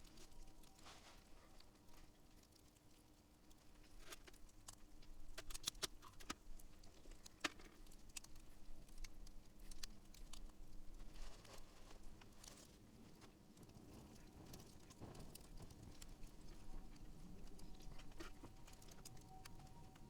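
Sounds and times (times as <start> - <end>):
campfire crackling and popping: 2.2 - 11.2, 11.9 - 20.0.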